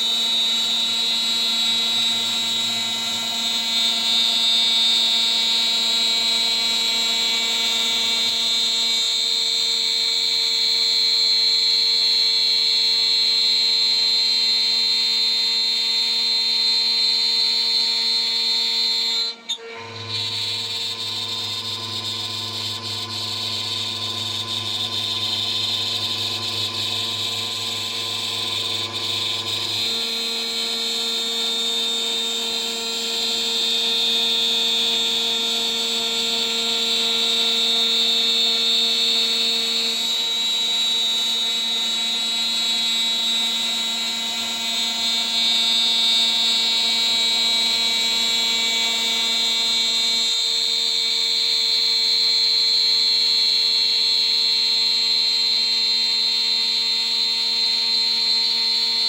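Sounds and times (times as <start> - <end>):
cnc spindle milling whine: 0.0 - 59.0.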